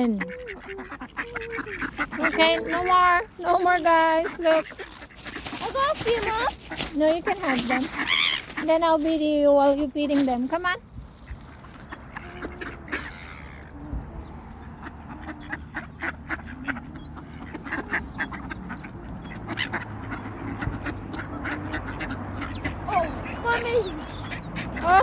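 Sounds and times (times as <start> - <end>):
ducks quacking: 0.0 - 25.0
waterbirds high calls: 0.0 - 25.0.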